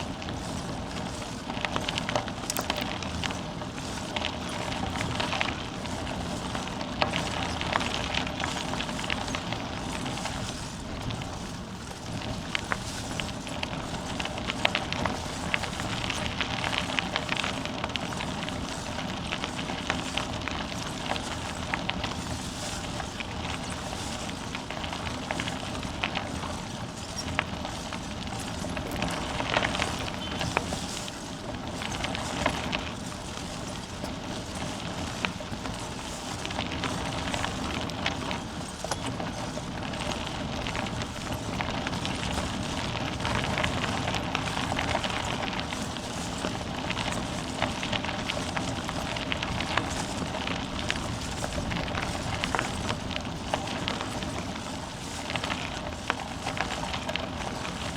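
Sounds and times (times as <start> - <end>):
bicycle tyres on rough path: 0.0 - 57.9
bike clicking: 0.0 - 57.9.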